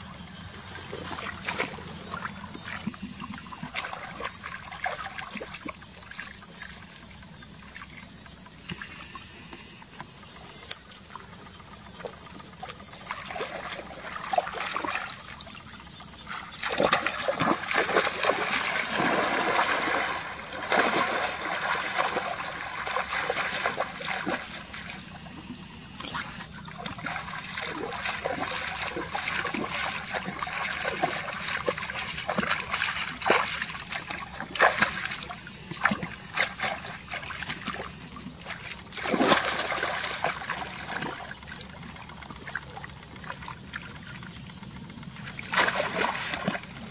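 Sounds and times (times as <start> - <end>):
water splashing and trickling: 0.6 - 9.2, 10.7 - 44.3, 45.1 - 46.9.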